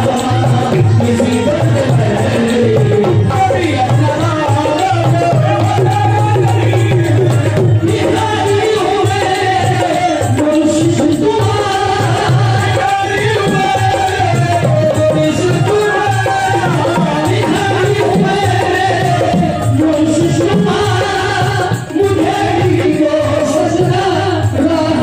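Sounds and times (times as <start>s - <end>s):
hand drum beat: 0.0s - 25.0s
harmonium: 0.0s - 25.0s
voices singing: 0.0s - 25.0s.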